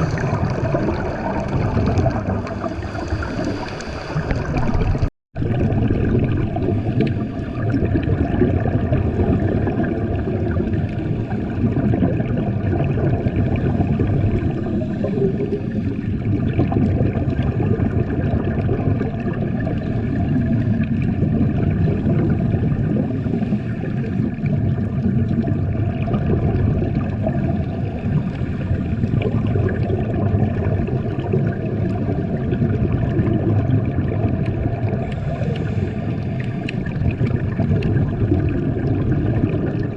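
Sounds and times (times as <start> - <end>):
churning water: 0.0 - 39.9.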